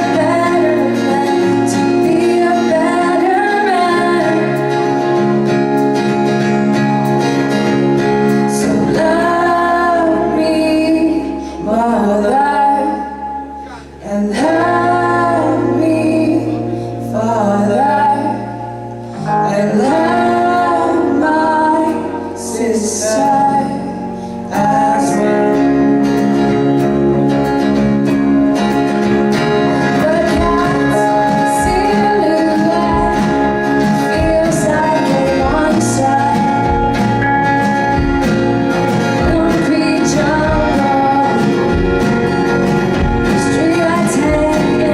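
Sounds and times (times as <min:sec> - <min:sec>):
woman singing: 0:00.0 - 0:05.6, 0:08.4 - 0:27.8, 0:29.3 - 0:44.9
live band playing: 0:00.0 - 0:44.9.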